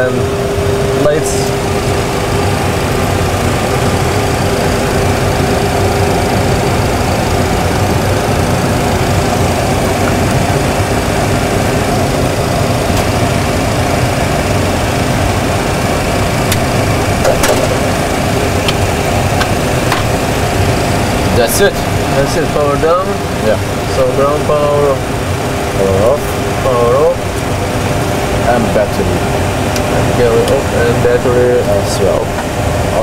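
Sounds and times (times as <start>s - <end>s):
cockpit mechanical hum: 0.0s - 33.0s.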